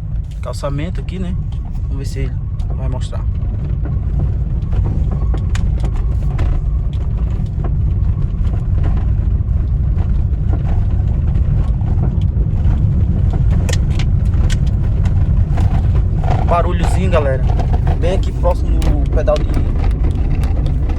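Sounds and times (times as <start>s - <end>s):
car knocks and rattles: 0.0s - 20.9s
low road rumble inside car: 0.0s - 20.9s.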